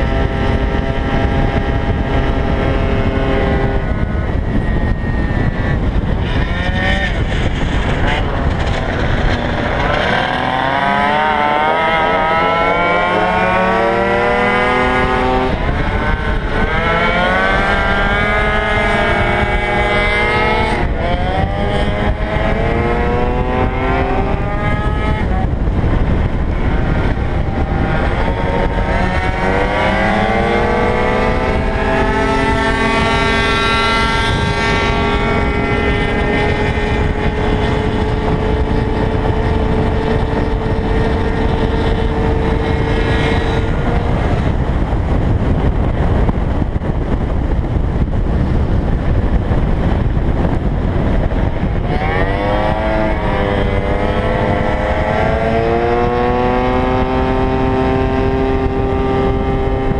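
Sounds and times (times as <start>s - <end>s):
scooter engine at speed: 0.0s - 59.9s
wind rush on microphone: 0.0s - 59.9s.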